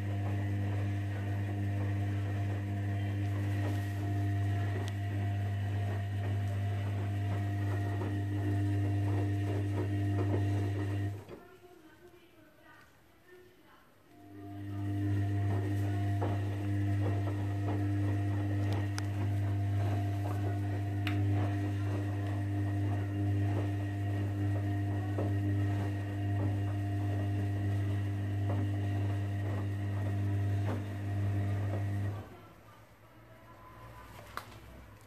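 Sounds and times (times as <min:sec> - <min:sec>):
washing machine motor hum: 0:00.0 - 0:11.6, 0:14.1 - 0:35.0.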